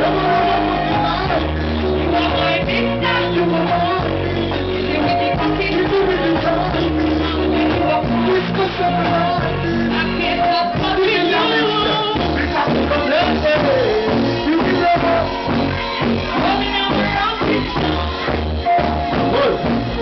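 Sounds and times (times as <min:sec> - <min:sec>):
deep bass line: 0:00.0 - 0:20.0
electric guitars: 0:00.0 - 0:20.0
keyboards: 0:00.0 - 0:20.0
person singing: 0:00.0 - 0:20.0.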